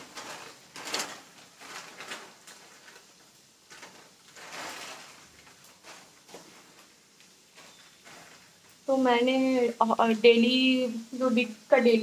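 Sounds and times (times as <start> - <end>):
grocery packets rustling: 0.0 - 12.0.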